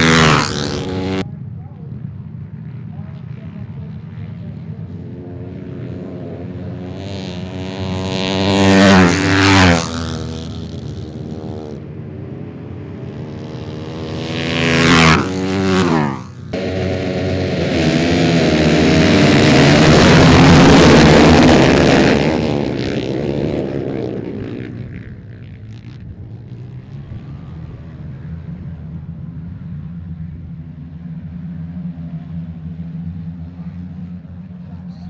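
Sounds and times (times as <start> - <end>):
motorcycles revving and racing: 0.0 - 35.0.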